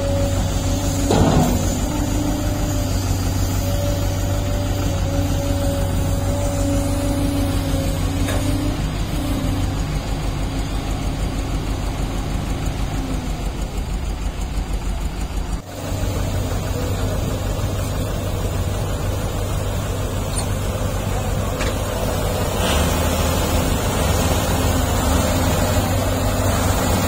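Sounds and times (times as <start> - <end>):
diesel engines low hum: 0.0 - 27.0.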